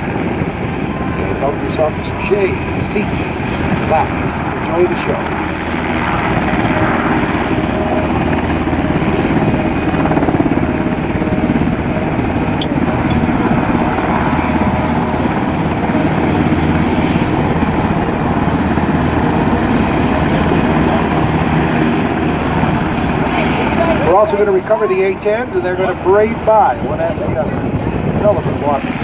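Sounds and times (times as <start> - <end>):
helicopter rotor and turbine: 0.0 - 29.0.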